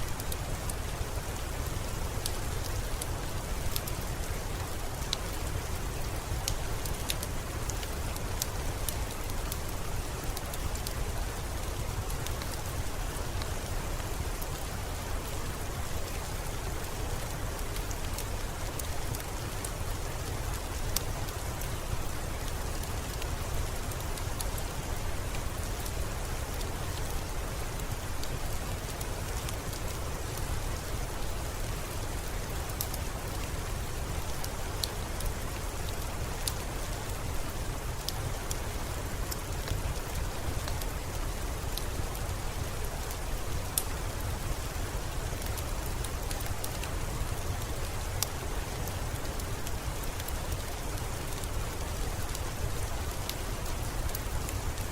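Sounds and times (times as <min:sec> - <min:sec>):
rain drop ticks: 0:00.0 - 0:54.9
steady rain hiss: 0:00.0 - 0:54.9.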